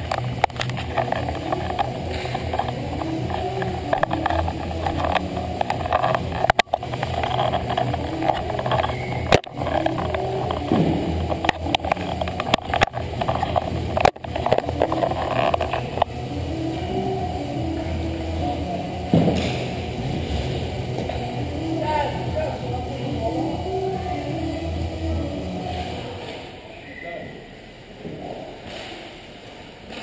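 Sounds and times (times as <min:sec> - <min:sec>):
low hum: 0:00.0 - 0:26.7.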